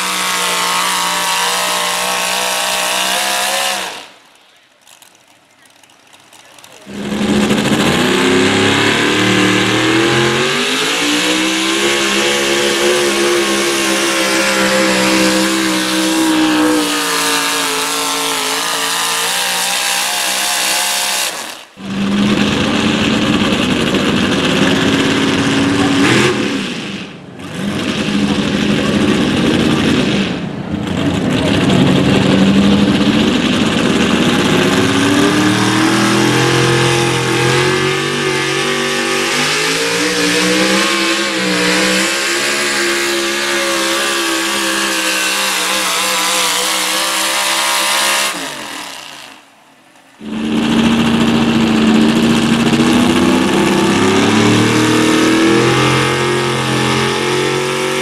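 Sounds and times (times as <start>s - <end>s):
truck engines at high revs: 0.0s - 58.0s.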